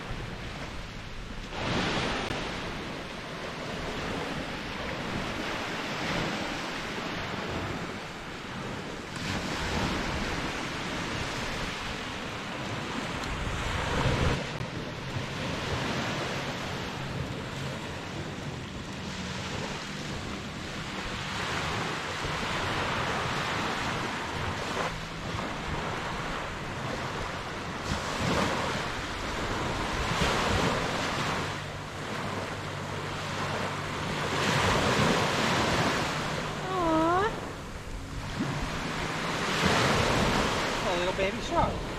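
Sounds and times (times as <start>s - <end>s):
surf washing onto beach: 0.0s - 41.9s
wind buffeting microphone: 0.0s - 41.9s.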